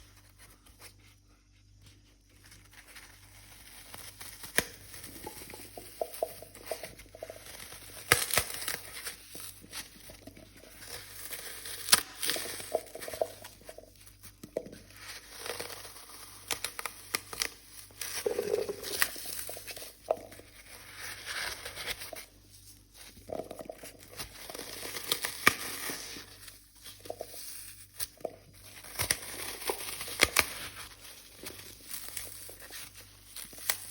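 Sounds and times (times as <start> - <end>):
floral foam crushed by hand: 2.6 - 33.9.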